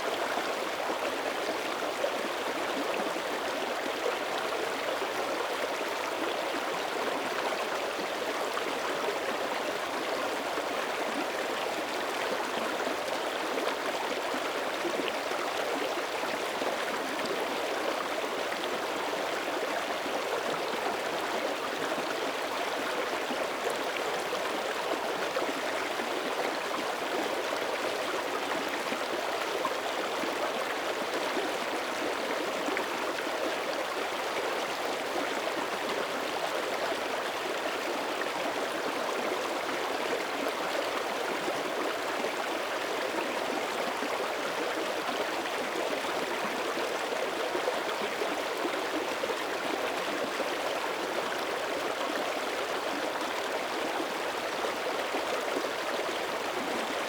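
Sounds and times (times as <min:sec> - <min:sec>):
creek flowing over rocks: 0:00.0 - 0:57.0.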